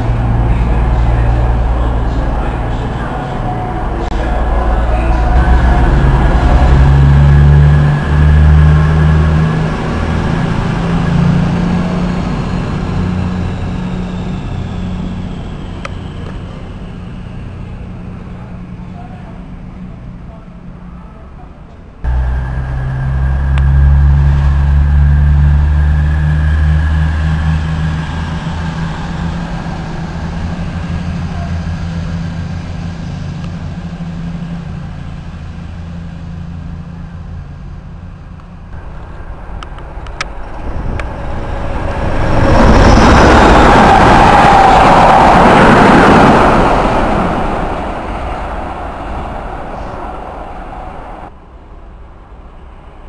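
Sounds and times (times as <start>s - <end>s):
train rushing past: 0.0s - 20.9s, 21.9s - 53.0s
diesel train engine droning: 0.0s - 53.0s.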